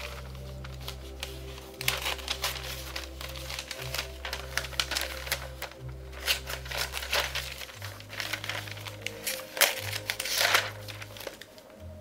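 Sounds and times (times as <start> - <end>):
newspaper pages rustling: 0.0 - 12.0
soft background music: 0.0 - 12.0.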